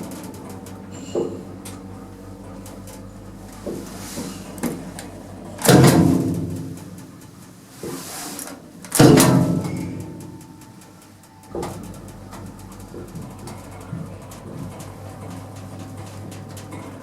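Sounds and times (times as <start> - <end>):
lift clunking: 0.0 - 17.0.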